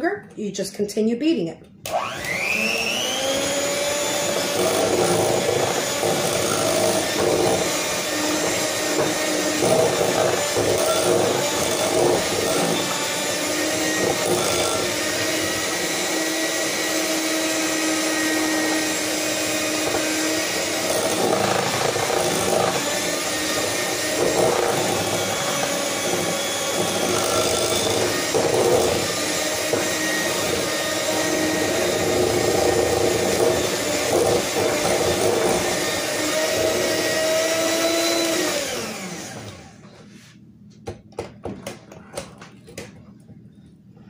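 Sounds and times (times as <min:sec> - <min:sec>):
electric hand mixer whirring: 0:01.8 - 0:39.9.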